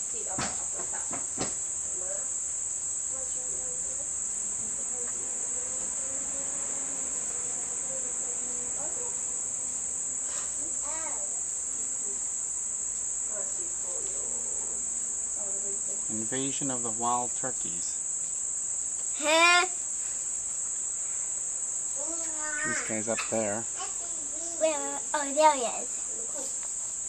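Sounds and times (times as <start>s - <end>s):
high-pitched insect trill: 0.0s - 27.0s.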